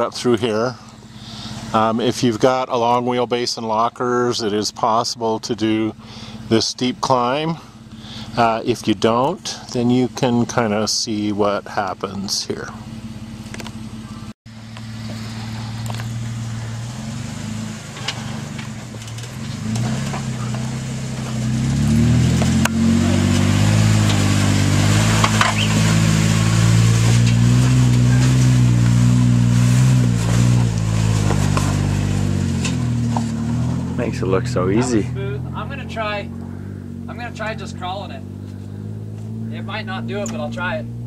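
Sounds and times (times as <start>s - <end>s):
car engine revving under load: 0.0s - 41.0s.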